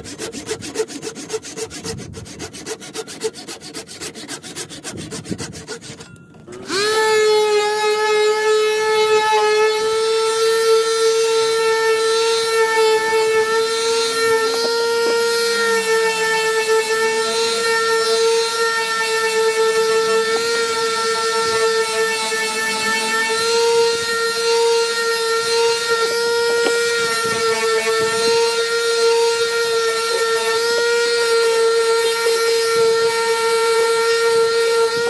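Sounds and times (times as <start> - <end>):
electric sander humming: 0.0 - 35.0
hand saw strokes: 0.0 - 35.0.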